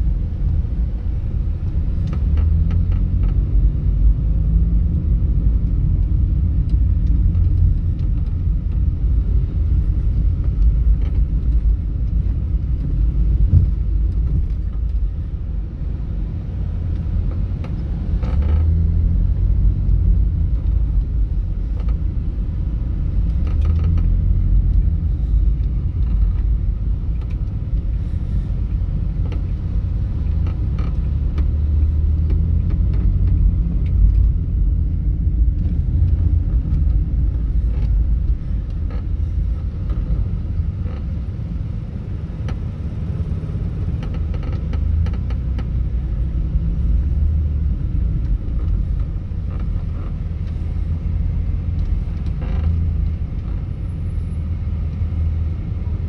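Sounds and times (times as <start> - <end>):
engine and road rumble: 0.0 - 56.0.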